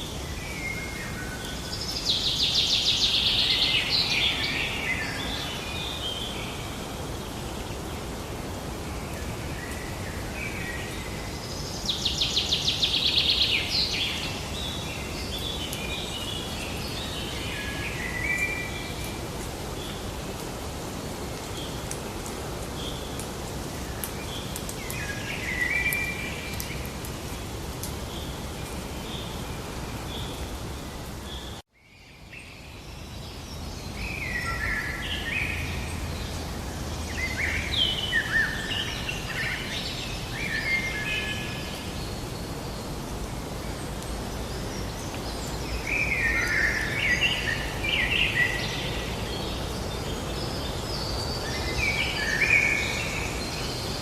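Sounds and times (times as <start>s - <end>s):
background hiss: 0.0s - 54.0s
small birds singing: 0.0s - 54.0s.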